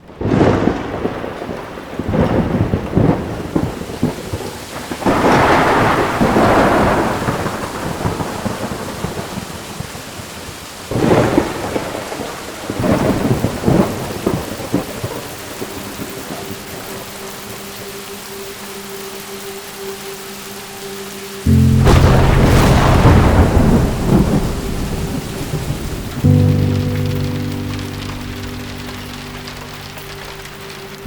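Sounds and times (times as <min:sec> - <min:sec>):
thunder rumbling: 0:00.0 - 0:17.9, 0:21.5 - 0:31.0
heavy rain falling: 0:00.0 - 0:31.0.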